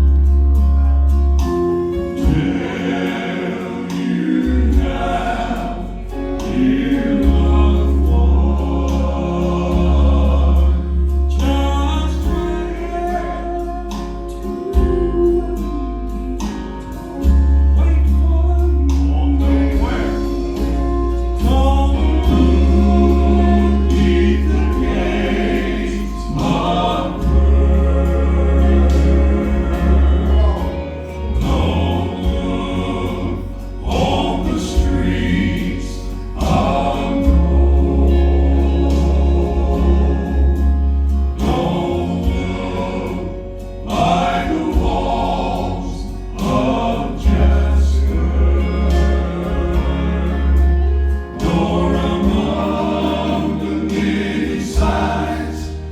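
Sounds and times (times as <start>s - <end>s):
bass accompaniment: 0.0s - 55.9s
vocal quartet singing in harmony: 0.0s - 55.9s.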